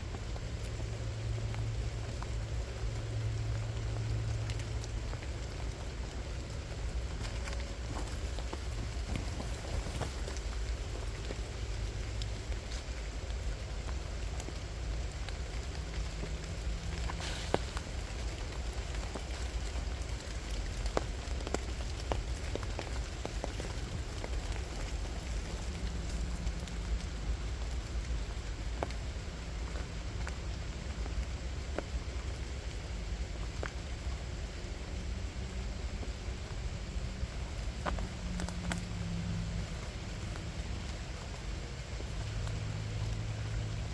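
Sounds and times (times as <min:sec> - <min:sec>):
low steady rumble: 0:00.0 - 0:43.9
raindrops ticking: 0:00.0 - 0:43.9.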